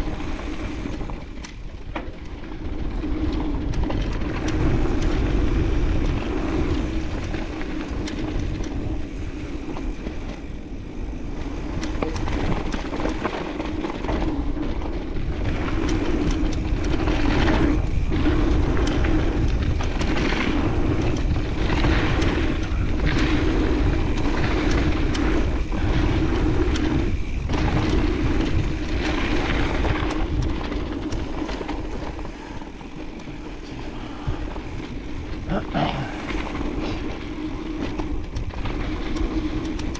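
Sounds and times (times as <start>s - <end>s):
bike clicks and rattles: 0.0s - 39.9s
bike tyre noise on dirt: 0.0s - 39.9s
wind rush on microphone: 0.0s - 39.9s.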